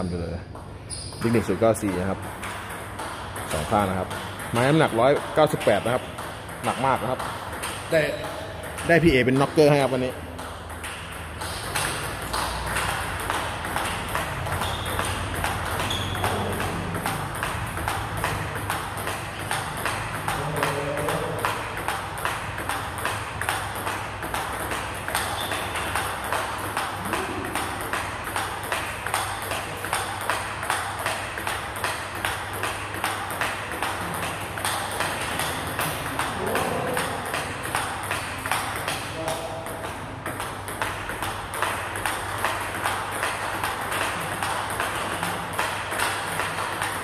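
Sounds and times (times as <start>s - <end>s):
table tennis ball clicking: 0.6s - 47.0s.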